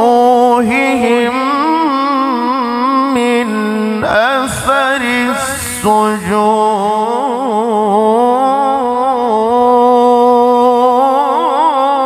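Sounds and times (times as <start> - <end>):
man reciting melodically into microphone: 0.0 - 12.0.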